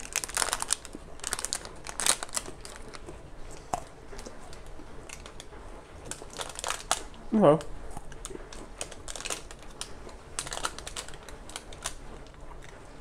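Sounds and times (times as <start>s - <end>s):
plastic wrapper crinkling: 0.0s - 12.4s.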